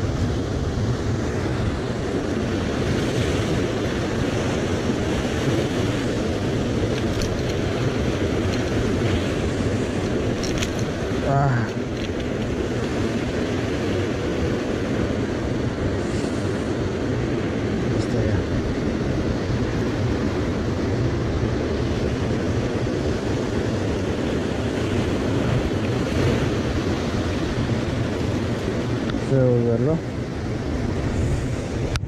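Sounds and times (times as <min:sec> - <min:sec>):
waves breaking on rocks: 0:00.0 - 0:32.0
wind rumble on microphone: 0:00.0 - 0:32.0.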